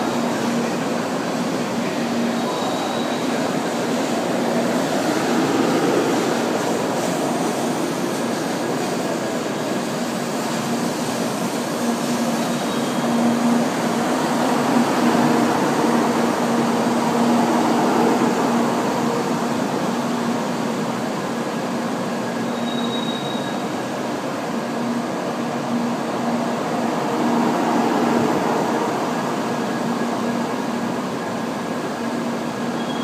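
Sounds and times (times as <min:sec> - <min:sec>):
train rolling slowly past: 0:00.0 - 0:33.0.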